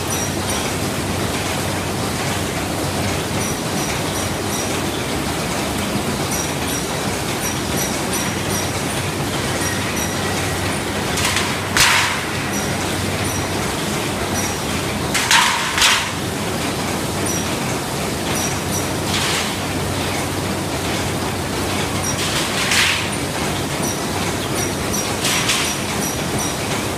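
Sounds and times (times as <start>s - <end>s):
sausage machine running: 0.0s - 26.9s.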